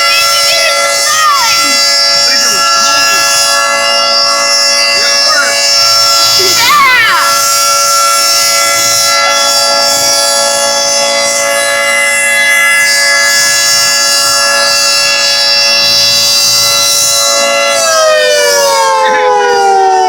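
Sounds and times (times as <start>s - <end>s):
two-tone warning siren: 0.0s - 20.0s.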